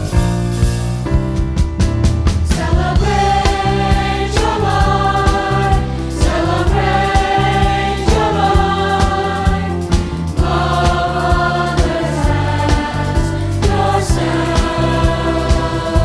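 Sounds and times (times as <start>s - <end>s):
choir singing gospel music: 2.2s - 16.0s.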